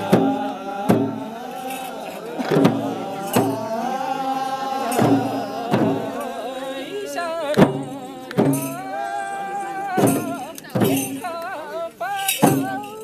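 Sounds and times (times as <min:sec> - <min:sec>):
sharp percussive beats: 0:00.0 - 0:06.6, 0:07.4 - 0:13.0
person singing wavering melody: 0:00.0 - 0:13.0.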